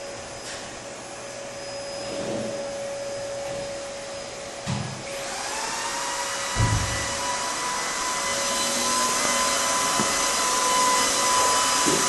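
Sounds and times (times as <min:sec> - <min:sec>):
motor running with whine: 0:00.0 - 0:12.0.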